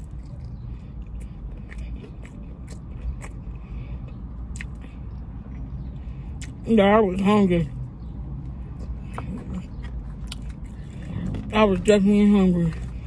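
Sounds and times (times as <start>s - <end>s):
chewing with lip-smacking: 0.0s - 13.0s.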